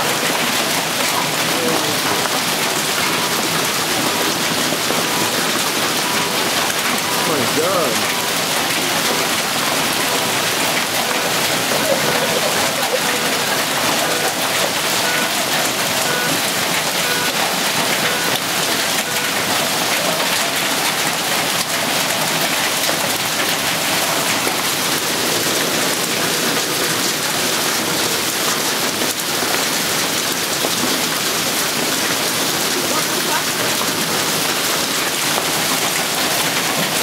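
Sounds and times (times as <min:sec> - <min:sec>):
hail and heavy rain pelting pavement: 0:00.0 - 0:37.0.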